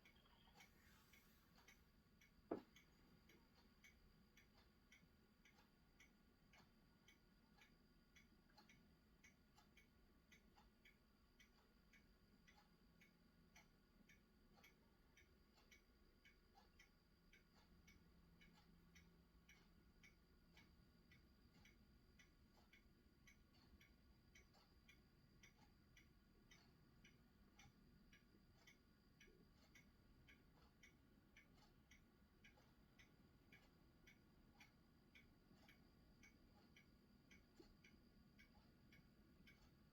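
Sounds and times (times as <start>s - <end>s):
faint regular ticking: 0.0s - 39.9s
faint steady hum: 0.0s - 39.9s.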